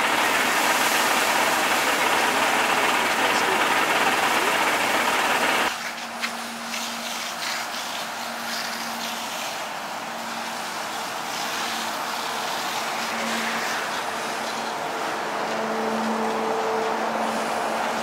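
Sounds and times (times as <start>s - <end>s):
engine humming: 0.0s - 6.7s, 8.4s - 18.0s
fire hose spraying water: 0.0s - 18.0s.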